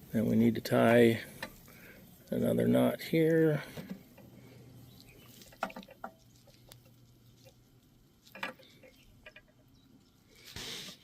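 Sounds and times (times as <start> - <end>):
small handling clicks and rustles: 0.2 - 11.0.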